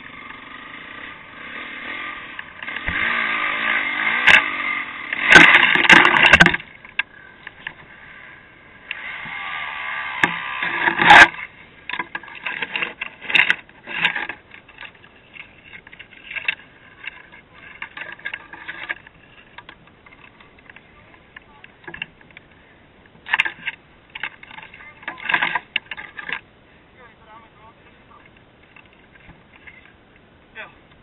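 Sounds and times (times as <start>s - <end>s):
dirt bike crashing: 0.0s - 26.5s
bike scraping branches and brush: 0.0s - 30.7s.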